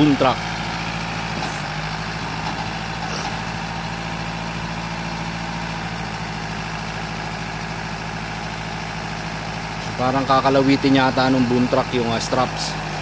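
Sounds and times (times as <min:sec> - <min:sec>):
truck engine running steadily: 0:00.0 - 0:13.0.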